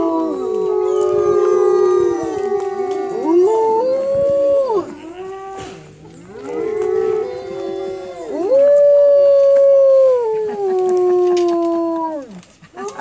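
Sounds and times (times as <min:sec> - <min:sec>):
wolves howling: 0:00.0 - 0:12.5.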